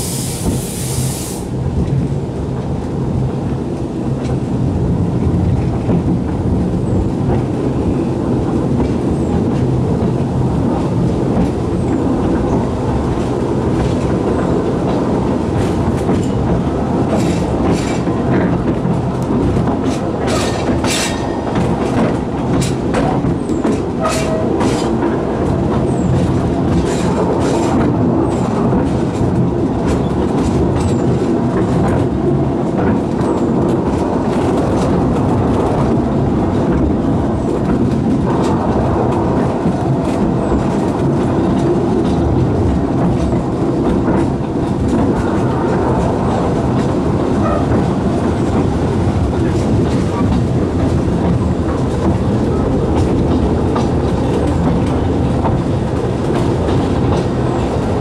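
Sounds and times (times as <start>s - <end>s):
railway carriage rumble: 0.0s - 58.0s.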